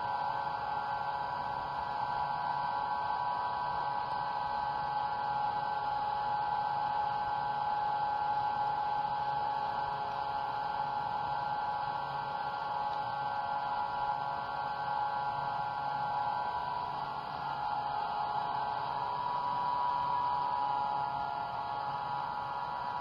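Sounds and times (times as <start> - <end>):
exciter motor electric hum: 0.0 - 23.0.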